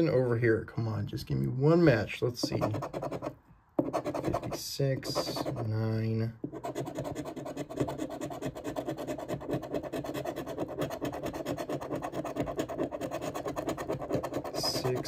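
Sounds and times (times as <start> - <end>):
coin scratching a ticket: 2.4 - 15.0.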